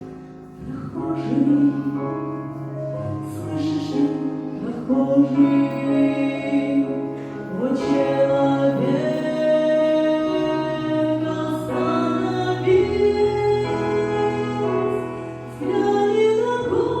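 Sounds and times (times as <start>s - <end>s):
slow worship song singing: 0.0s - 17.0s.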